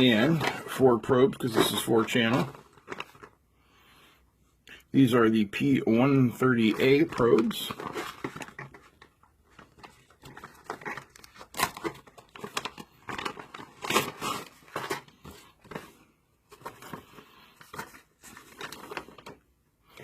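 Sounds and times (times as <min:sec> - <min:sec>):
plastic packaging crinkling: 0:00.0 - 0:03.4, 0:06.4 - 0:19.5.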